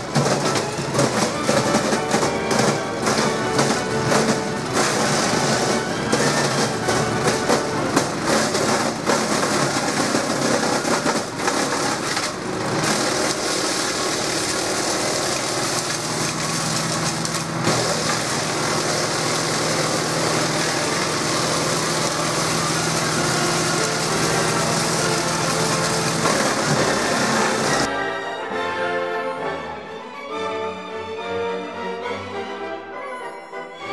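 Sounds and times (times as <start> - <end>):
wood chipper engine running: 0.0 - 27.9.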